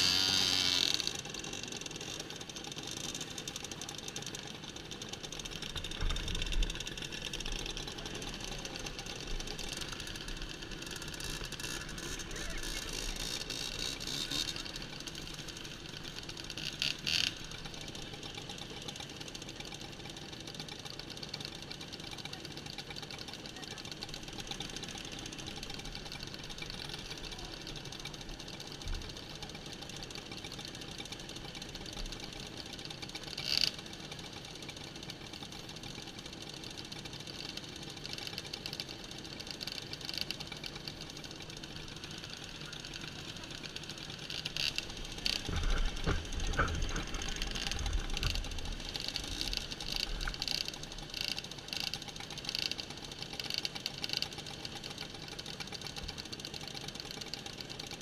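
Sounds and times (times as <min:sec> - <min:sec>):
moped engines idling: 0:00.0 - 0:58.0.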